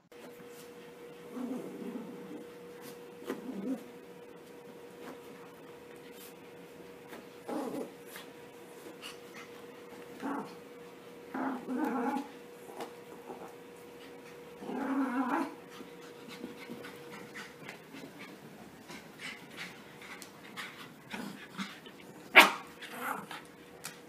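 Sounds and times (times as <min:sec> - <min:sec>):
puppies growling in play: 0:00.5 - 0:06.4, 0:07.0 - 0:24.0.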